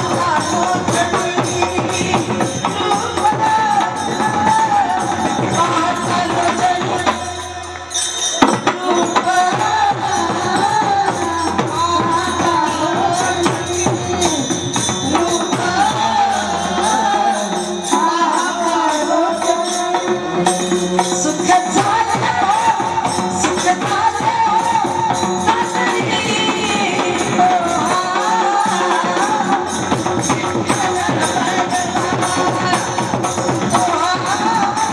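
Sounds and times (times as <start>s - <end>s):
jingling hand percussion: 0.0s - 34.9s
woman singing: 0.0s - 34.9s.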